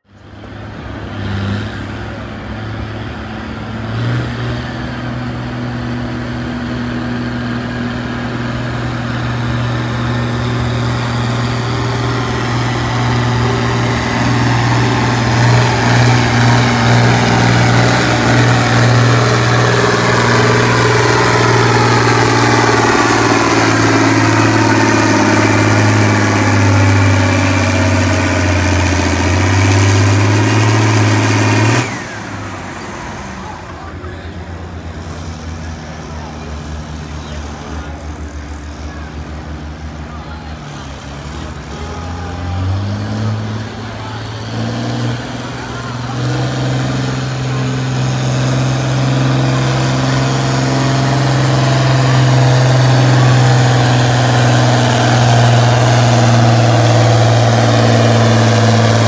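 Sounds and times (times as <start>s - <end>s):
tractor engine under heavy load: 0.0s - 59.0s.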